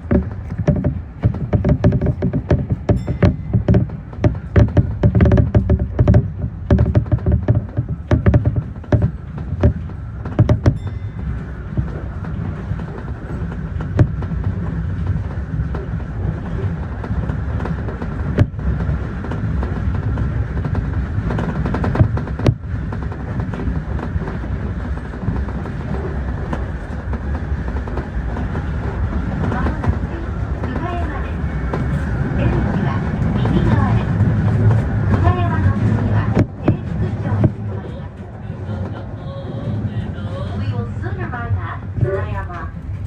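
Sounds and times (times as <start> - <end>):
wheels clicking over rail joints: 0.0 - 39.2
train wheels rumbling on rail: 0.0 - 43.0.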